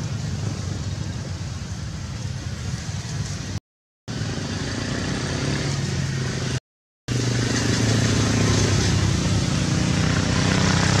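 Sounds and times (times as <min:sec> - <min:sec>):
road traffic noise: 0:00.0 - 0:11.0
vehicle engine running low: 0:00.0 - 0:11.0.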